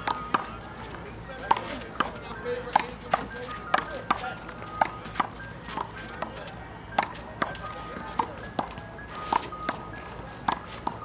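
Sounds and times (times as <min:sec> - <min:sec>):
handball smacks: 0:00.0 - 0:06.4, 0:07.0 - 0:11.0.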